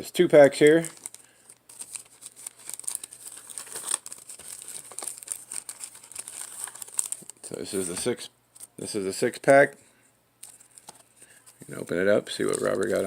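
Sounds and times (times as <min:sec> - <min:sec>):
card pack wrapper crinkling: 0:00.4 - 0:08.8, 0:10.4 - 0:13.0.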